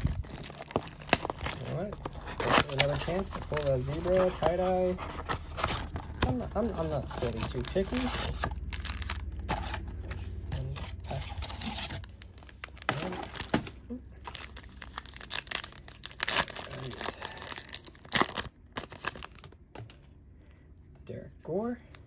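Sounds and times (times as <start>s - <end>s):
card pack wrappers tearing: 0.0s - 19.6s
wrappers crinkling: 0.0s - 19.6s.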